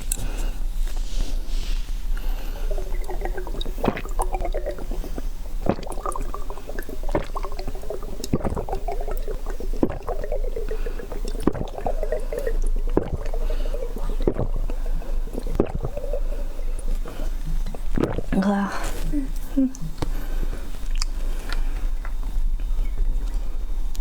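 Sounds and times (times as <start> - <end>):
wet slurping: 0.0 - 22.3
squishy chewing: 1.9 - 24.0.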